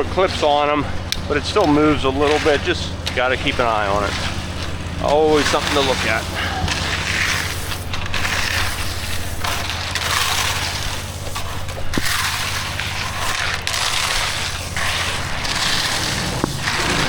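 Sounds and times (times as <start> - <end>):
engine humming: 0.0 - 17.0
tools scraping wet concrete: 0.0 - 17.0.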